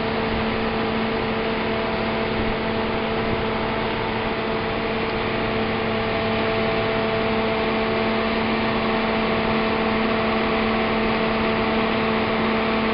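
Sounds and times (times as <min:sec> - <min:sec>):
combine harvester droning: 0:00.0 - 0:12.9.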